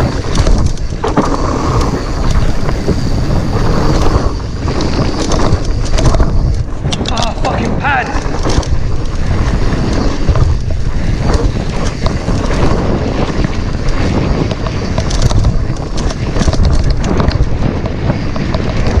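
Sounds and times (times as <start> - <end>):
bike tyres rumbling on dirt: 0.0 - 19.0
rattling knocks over bumps: 0.0 - 19.0
wind noise on microphone: 0.0 - 19.0.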